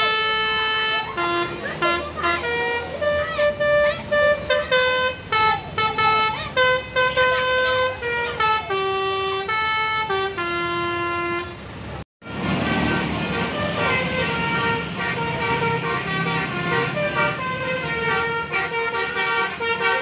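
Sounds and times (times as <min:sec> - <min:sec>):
bus musical horn playing a tune: 0:00.0 - 0:20.0
traffic noise: 0:00.0 - 0:20.0.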